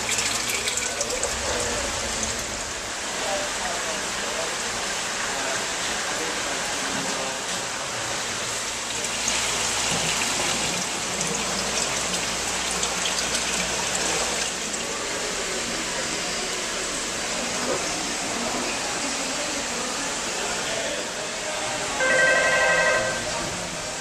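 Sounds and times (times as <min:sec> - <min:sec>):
aquarium water splashing: 0:00.0 - 0:24.0.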